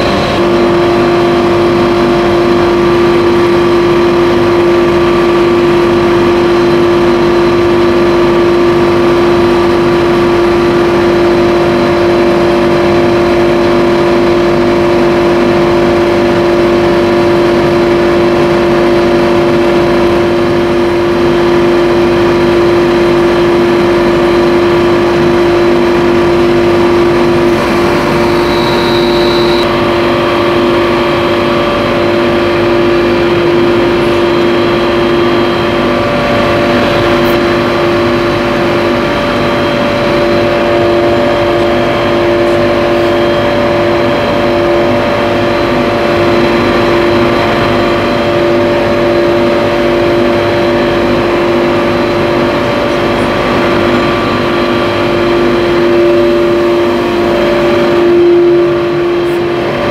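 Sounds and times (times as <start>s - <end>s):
air compressor humming: 0.0s - 59.9s.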